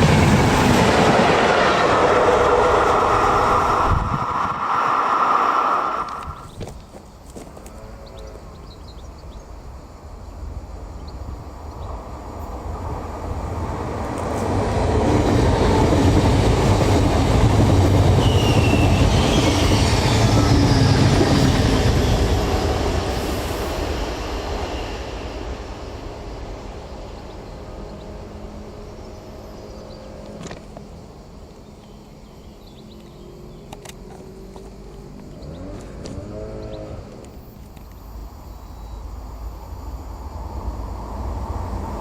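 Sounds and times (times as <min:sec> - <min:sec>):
train passing on rails: 0:00.0 - 0:42.0.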